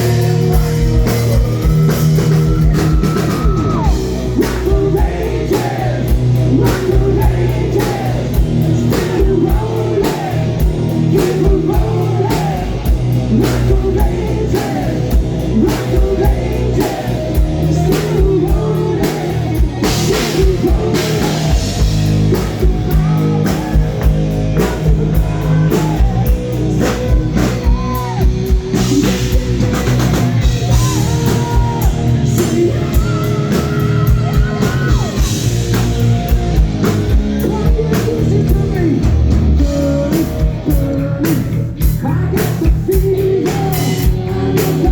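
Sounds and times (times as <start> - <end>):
person singing: 0.0 - 35.3, 37.4 - 44.9
drum kit: 0.0 - 44.9
electric guitar: 0.0 - 44.9.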